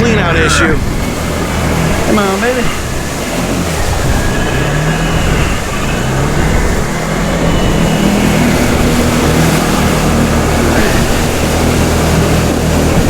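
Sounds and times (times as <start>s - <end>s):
atv engine running under throttle: 0.0s - 13.0s.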